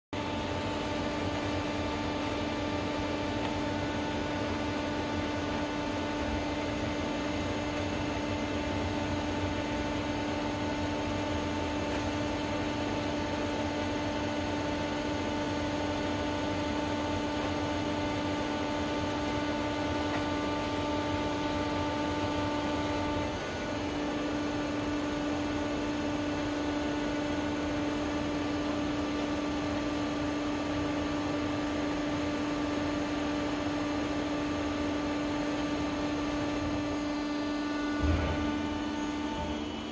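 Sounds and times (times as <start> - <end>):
furnace machinery electric hum: 0.2 - 39.9.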